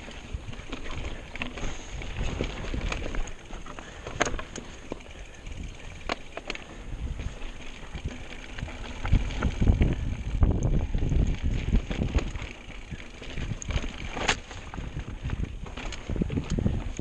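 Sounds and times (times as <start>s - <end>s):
bike clicks and knocks on rocks: 0.0s - 17.0s
bike tyres rumbling on dirt: 0.0s - 17.0s.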